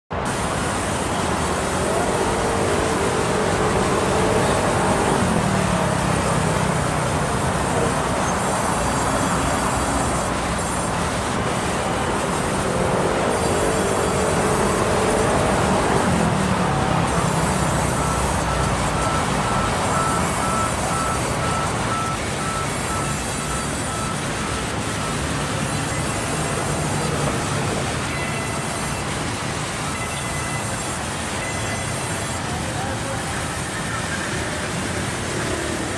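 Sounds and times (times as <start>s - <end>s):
sawmill saw cutting logs: 0.1s - 35.9s.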